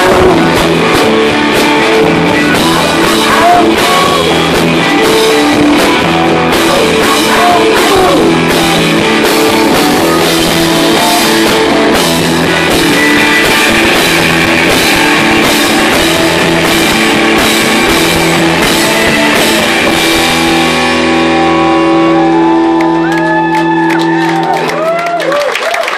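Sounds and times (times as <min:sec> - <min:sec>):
drum kit beat: 0:00.0 - 0:23.8
electric guitars playing chords: 0:00.0 - 0:25.2.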